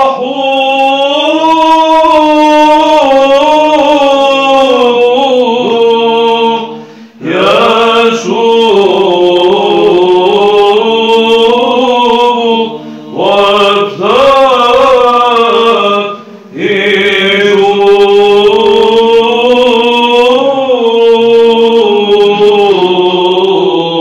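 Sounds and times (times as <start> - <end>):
men chanting a hymn: 0.0 - 24.0.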